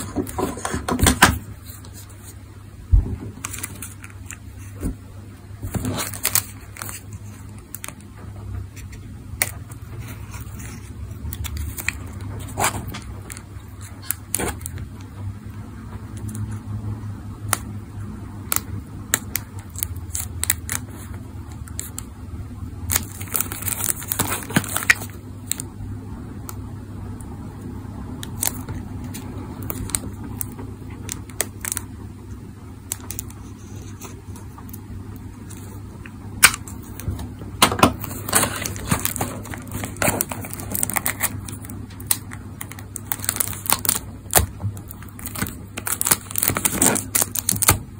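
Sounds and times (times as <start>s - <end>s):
cellophane crinkling: 3.3s - 5.0s, 5.6s - 15.2s, 18.4s - 25.7s, 28.1s - 47.9s.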